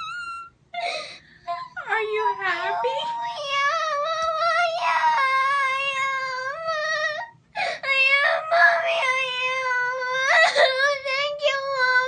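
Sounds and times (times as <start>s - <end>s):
girl crying: 0.0s - 12.0s.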